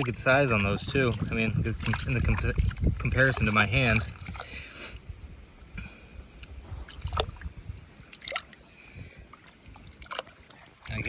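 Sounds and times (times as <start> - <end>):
sharp drips or small splashes: 0.0 - 5.1, 6.3 - 11.0
seawater trickling and dripping: 0.0 - 11.0.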